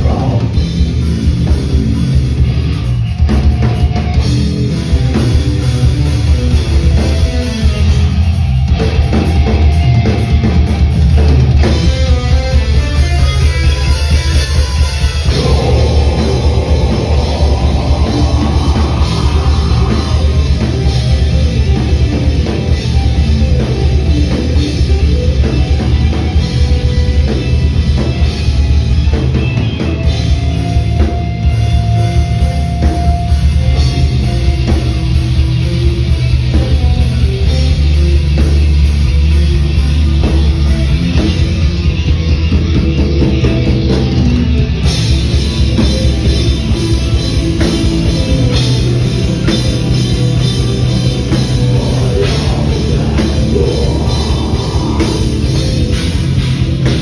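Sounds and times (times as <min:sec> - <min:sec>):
distorted electric guitars: 0:00.0 - 0:57.0
drum kit: 0:00.0 - 0:57.0.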